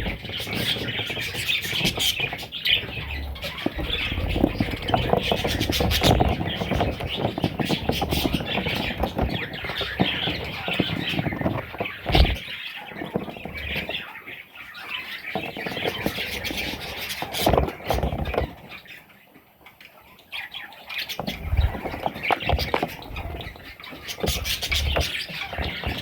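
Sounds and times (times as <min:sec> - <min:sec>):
scratching and rustling: 0:00.0 - 0:19.0, 0:20.9 - 0:26.0
baby birds chirping and squawking: 0:00.0 - 0:26.0.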